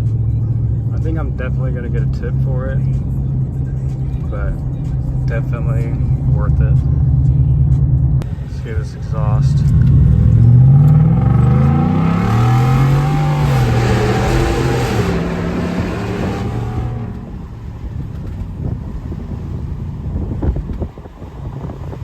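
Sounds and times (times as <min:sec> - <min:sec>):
exhaust note climbing: 0:00.0 - 0:22.0
truck engine accelerating: 0:00.0 - 0:22.0.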